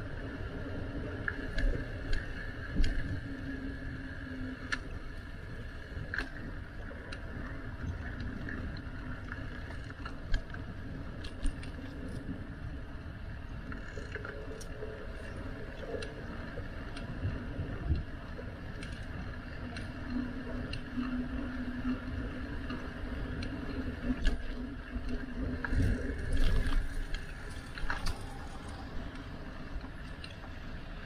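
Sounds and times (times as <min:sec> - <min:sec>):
bicycle tyres rumbling: 0:00.0 - 0:31.0.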